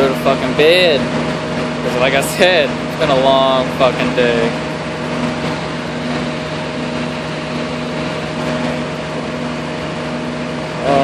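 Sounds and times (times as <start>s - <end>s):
constant machine whine: 0.0s - 11.0s
machine humming: 0.0s - 11.0s.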